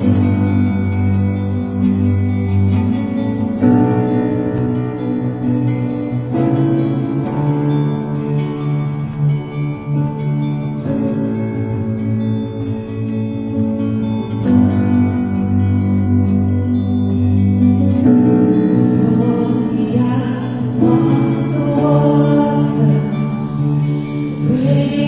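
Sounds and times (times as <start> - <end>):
sustained chords: 0.0 - 25.0.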